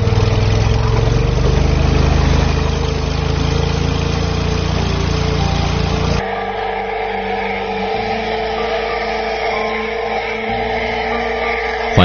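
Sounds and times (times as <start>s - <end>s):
engine humming: 0.0s - 12.0s
water churning and spraying: 0.0s - 12.0s.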